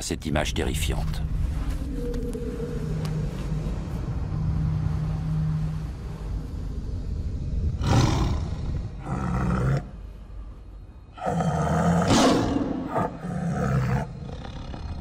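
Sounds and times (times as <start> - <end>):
low steady drone: 0.0 - 15.0.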